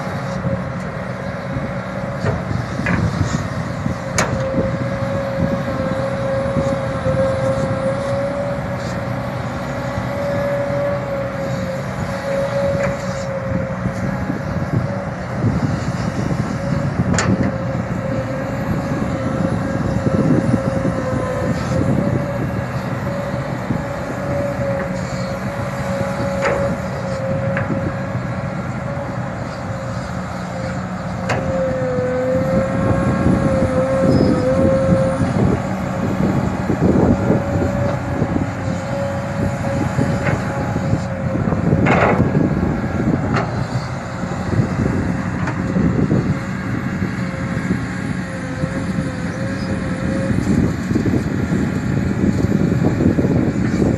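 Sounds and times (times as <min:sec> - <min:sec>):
excavator engine running: 0:00.0 - 0:53.9
high hydraulic whine: 0:00.0 - 0:53.9.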